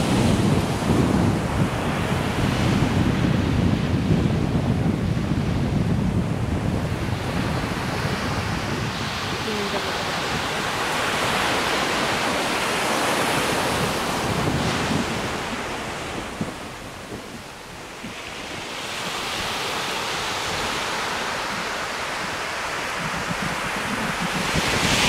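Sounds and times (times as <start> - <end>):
sea surf breaking on beach: 0.0 - 25.0
wind buffeting microphone: 0.0 - 25.0.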